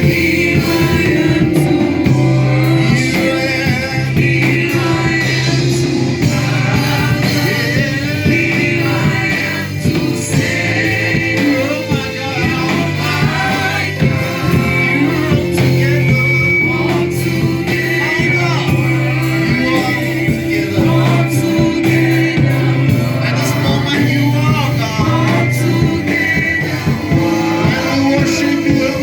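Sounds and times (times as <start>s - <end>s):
gospel choir singing: 0.0s - 29.0s
held bass notes: 0.0s - 29.0s
instrumental backing: 0.0s - 29.0s.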